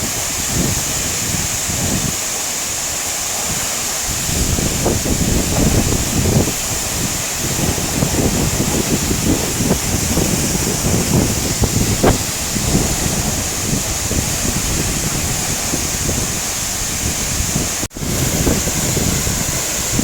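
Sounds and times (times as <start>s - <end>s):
waterfall rushing: 0.0s - 20.0s
wind buffeting on microphone: 0.0s - 20.0s.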